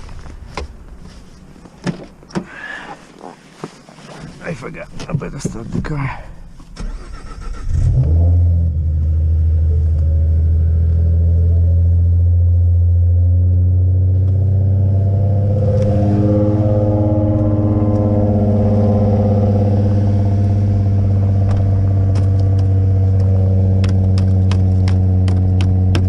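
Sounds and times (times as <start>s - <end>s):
car engine idling: 4.5s - 26.0s.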